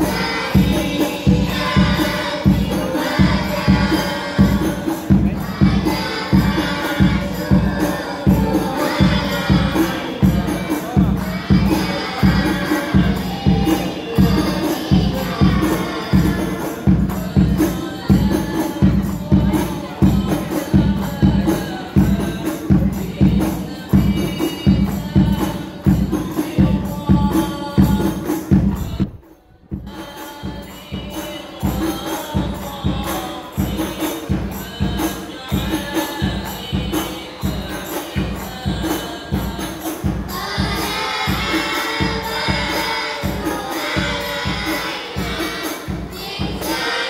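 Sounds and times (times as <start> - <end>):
frame drums beating: 0.0 - 47.0
group singing: 0.0 - 47.0.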